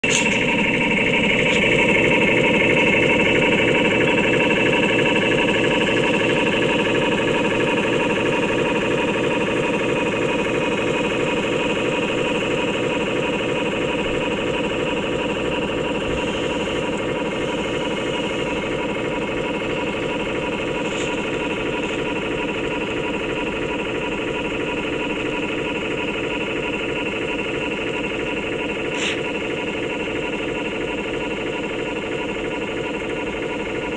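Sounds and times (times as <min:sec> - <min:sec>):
simulated diesel engine chugging: 0:00.0 - 0:33.9
steady whine: 0:00.0 - 0:33.9.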